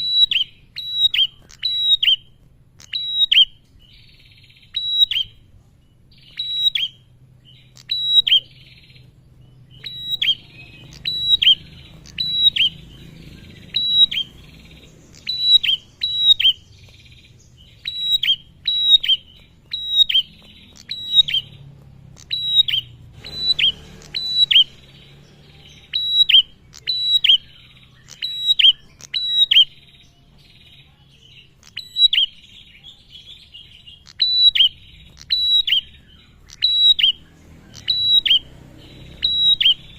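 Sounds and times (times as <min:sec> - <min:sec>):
bird singing chip notes: 0:00.0 - 0:39.9
buzzy bird chatter: 0:00.0 - 0:39.9.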